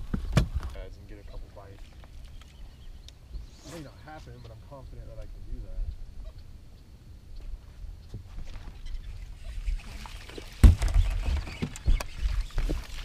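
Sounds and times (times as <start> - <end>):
water and wind rumble: 0.0 - 13.0.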